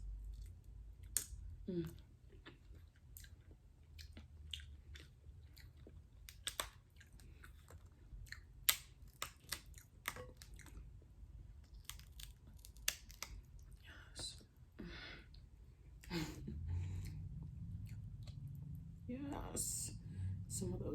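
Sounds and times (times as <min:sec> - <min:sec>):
person chewing food: 0:00.0 - 0:19.0
low room hum: 0:00.0 - 0:20.9.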